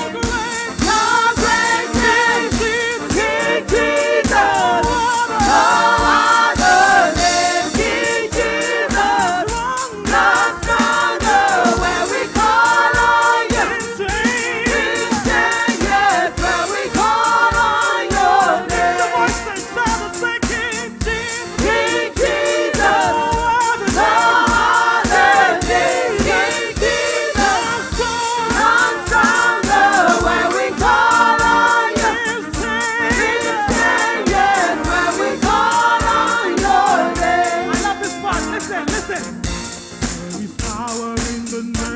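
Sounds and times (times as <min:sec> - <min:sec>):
band with steady drum beat: 0:00.0 - 0:41.9
choir singing gospel: 0:00.0 - 0:41.9.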